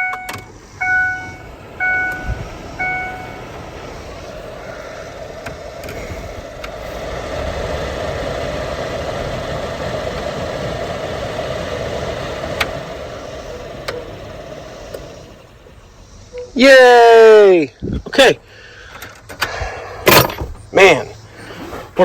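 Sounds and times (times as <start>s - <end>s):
blower fan rushing air: 0.0s - 22.0s.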